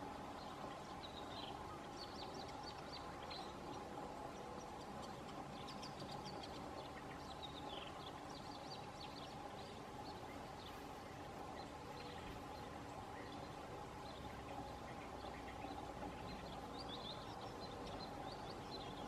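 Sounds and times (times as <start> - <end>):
faint steady hum: 0.0 - 19.0
songbirds chirping: 0.0 - 19.0.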